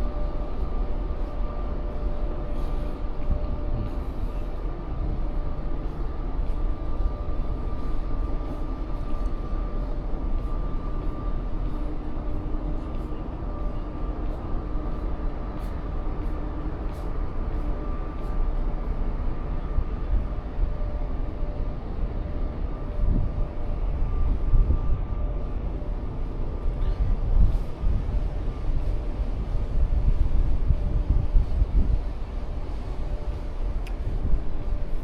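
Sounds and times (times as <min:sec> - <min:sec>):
ship machinery drone: 0:00.0 - 0:35.0.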